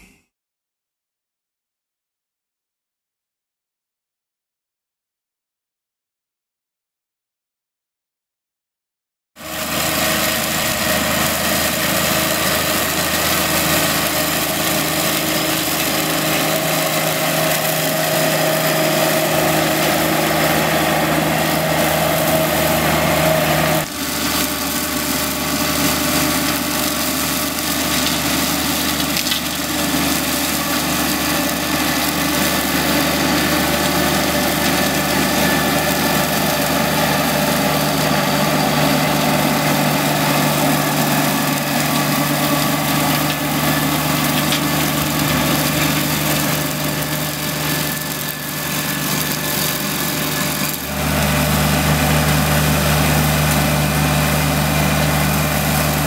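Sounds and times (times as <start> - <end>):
flail mower cutting grass: 9.4 - 56.0
skid steer running under load: 9.4 - 56.0.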